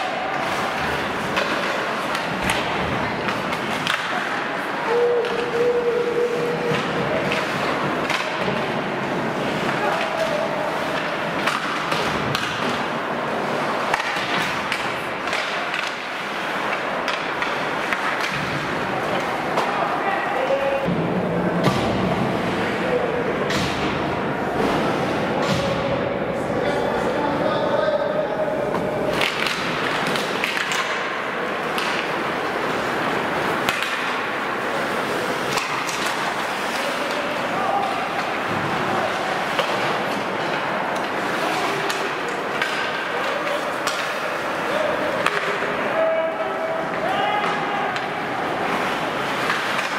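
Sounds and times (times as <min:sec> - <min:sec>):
clacks of sticks and puck: 0:00.0 - 0:05.8, 0:06.5 - 0:22.8, 0:23.4 - 0:25.9, 0:28.6 - 0:49.9.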